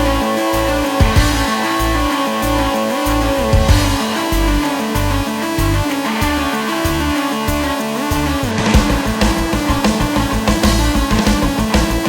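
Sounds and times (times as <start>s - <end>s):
electronic rock music: 0.0s - 12.0s.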